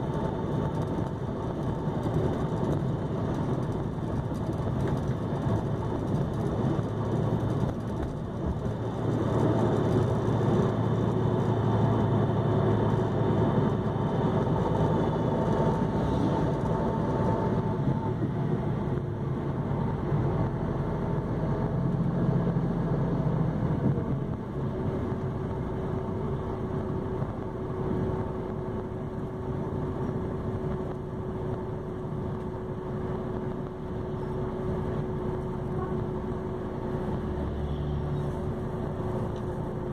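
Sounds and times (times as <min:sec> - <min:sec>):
diesel coach engine running: 0:00.0 - 0:39.9.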